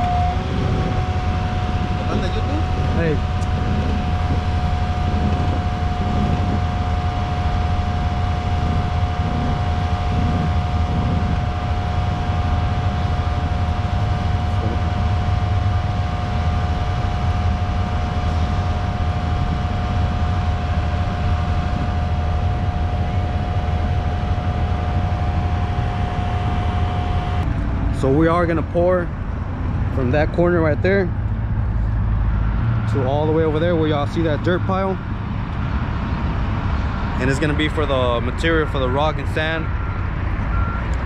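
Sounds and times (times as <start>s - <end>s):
constant high whine: 0.0s - 41.0s
low engine drone: 0.0s - 41.0s.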